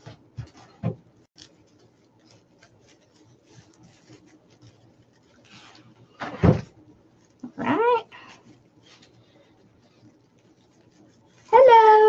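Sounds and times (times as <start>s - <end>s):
rustling of craft materials: 0.0s - 12.0s.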